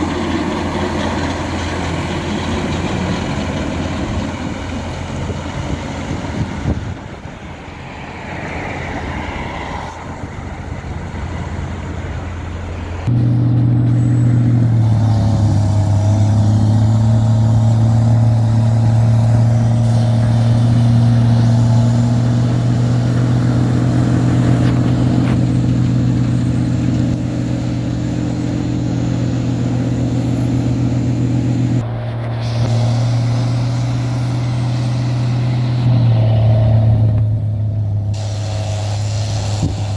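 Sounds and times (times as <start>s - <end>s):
snow blower droning: 0.0s - 7.1s, 13.0s - 36.7s, 37.9s - 39.9s
diesel engine running: 0.0s - 39.9s.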